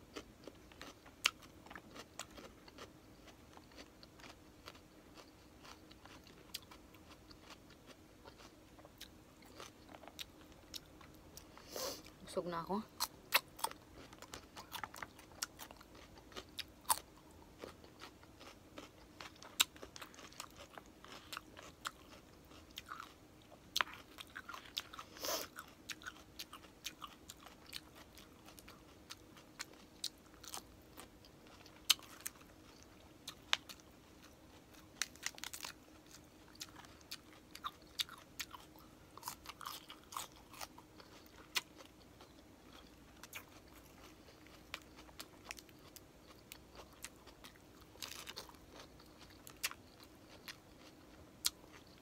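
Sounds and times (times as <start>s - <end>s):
person chewing crunchy food: 0.0s - 12.2s, 13.0s - 52.0s.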